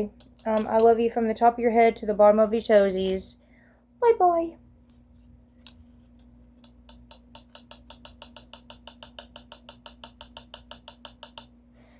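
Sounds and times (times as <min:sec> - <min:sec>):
faint steady hum: 0:00.0 - 0:11.9.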